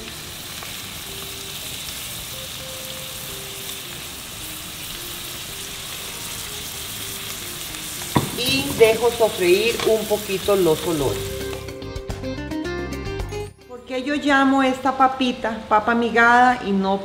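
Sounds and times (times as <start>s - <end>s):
vegetables sizzling in a pan: 0.0s - 11.8s, 14.3s - 17.0s.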